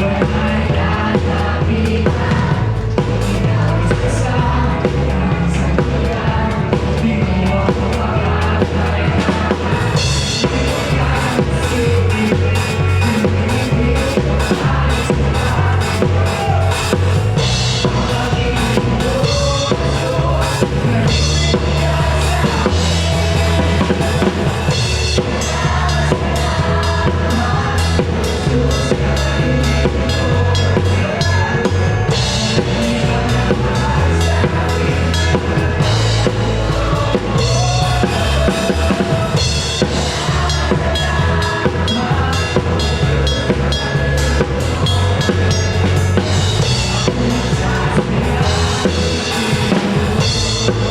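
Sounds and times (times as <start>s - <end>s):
bass drum and snare beat: 0.0s - 50.9s
live band playing: 0.0s - 50.9s.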